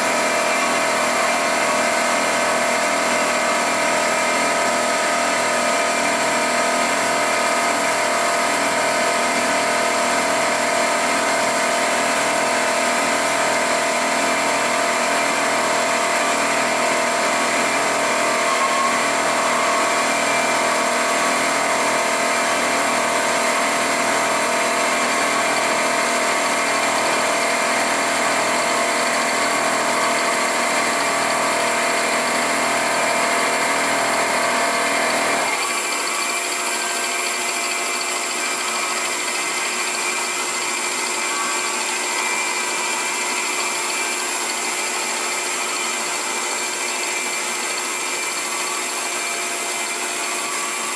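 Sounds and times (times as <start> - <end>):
milling machine cutting metal: 0.0 - 50.9
steady machine whine: 0.0 - 50.9.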